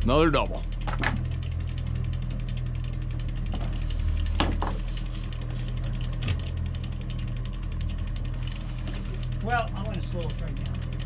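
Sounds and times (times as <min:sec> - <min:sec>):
boat engine drone: 0:00.0 - 0:11.0
fishing reel ratchet clicking: 0:00.7 - 0:11.0.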